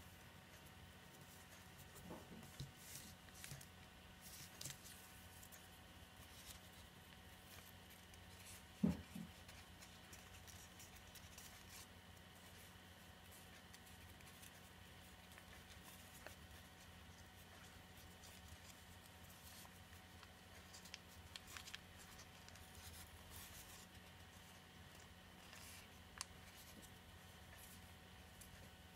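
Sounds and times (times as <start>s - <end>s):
faint steady hum: 0.0s - 28.9s
paper crinkling being folded: 0.5s - 28.9s.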